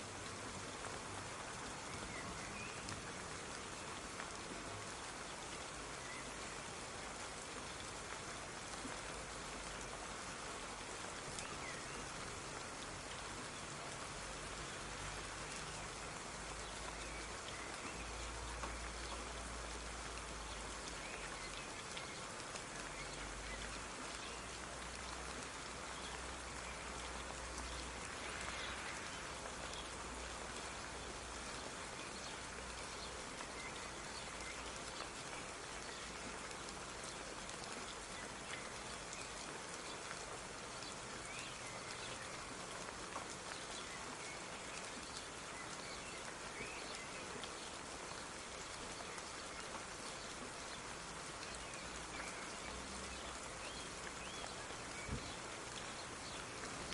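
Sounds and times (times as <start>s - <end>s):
light rain falling: 0.0s - 56.9s.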